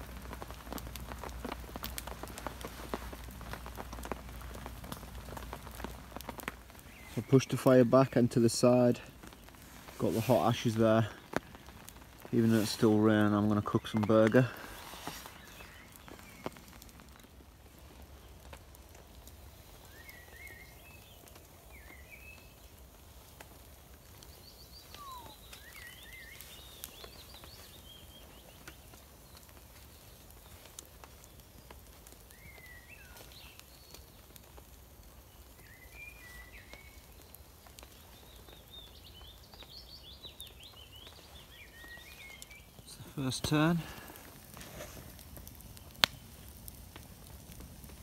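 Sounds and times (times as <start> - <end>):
campfire crackling: 0.0 - 48.0
songbirds chirping: 0.0 - 48.0.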